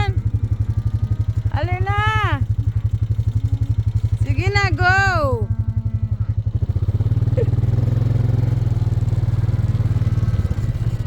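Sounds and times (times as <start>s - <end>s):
small engine running at low revs: 0.0s - 11.0s.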